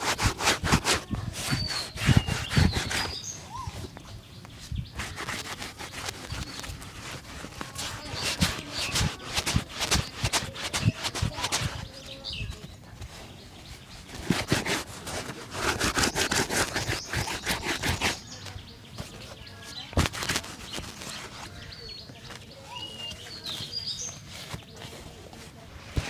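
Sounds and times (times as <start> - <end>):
shoe being brushed: 0.0 - 3.9, 4.6 - 21.6
birds chirping: 0.0 - 26.0.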